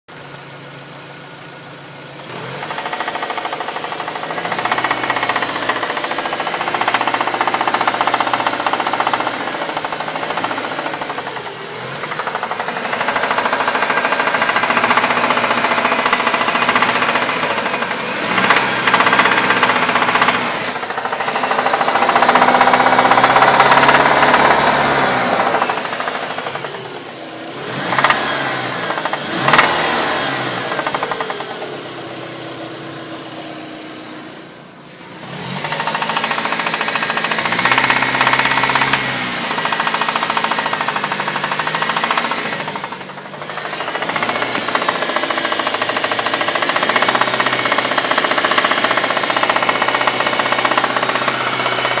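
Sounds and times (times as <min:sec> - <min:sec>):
knocking car engine revving: 0:00.2 - 0:52.0.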